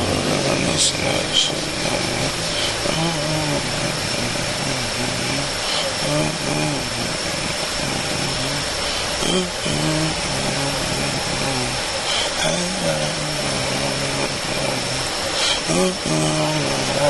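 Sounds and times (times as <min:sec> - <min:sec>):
low voice mumbling: 0:00.0 - 0:17.0
vehicle engine and fan whirring: 0:00.0 - 0:17.0.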